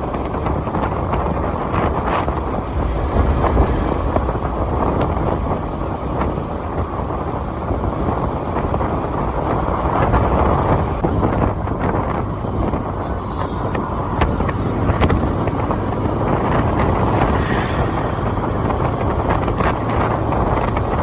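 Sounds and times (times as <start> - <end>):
motorcycle riding noise: 0.0 - 21.0
wind buffeting microphone: 0.0 - 21.0.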